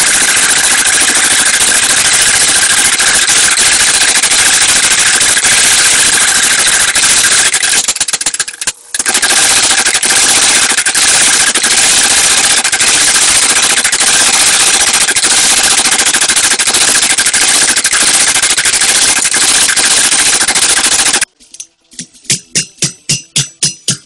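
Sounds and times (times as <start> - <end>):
power hammer pounding steel: 0.0 - 21.2, 22.3 - 24.0.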